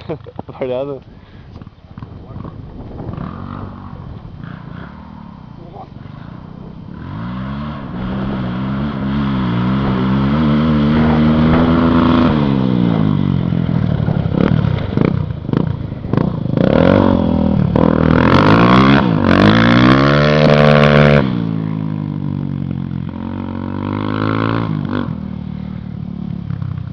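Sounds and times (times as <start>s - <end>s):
motorcycle engine revving: 1.6s - 26.9s.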